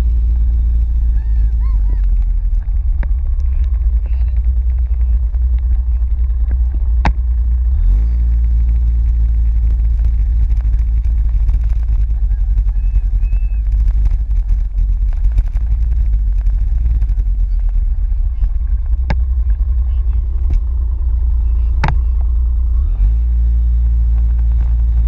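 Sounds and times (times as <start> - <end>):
wind buffeting microphone: 0.0 - 23.2
vehicle engine: 0.0 - 25.0.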